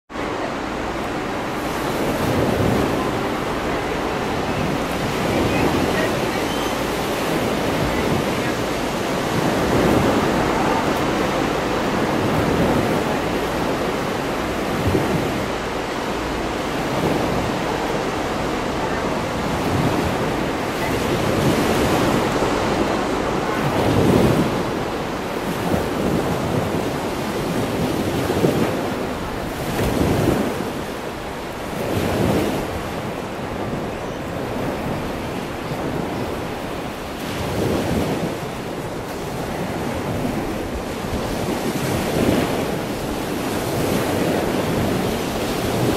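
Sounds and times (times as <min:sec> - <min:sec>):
wind: 0:00.0 - 0:45.9
ocean surf rushing: 0:00.1 - 0:45.9
wind gusts hitting microphone: 0:00.1 - 0:45.9.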